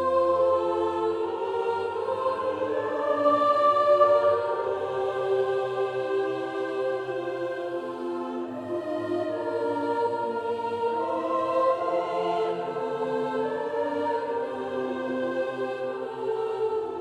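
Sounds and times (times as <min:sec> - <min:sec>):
slow sustained chords: 0:00.0 - 0:16.2
choir-like voices: 0:00.0 - 0:17.0.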